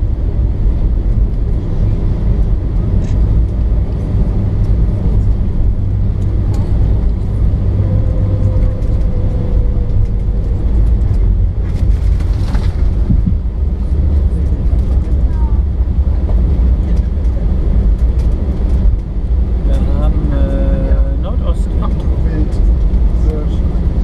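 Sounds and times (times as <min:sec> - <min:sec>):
airliner rumble on runway: 0:00.0 - 0:24.0.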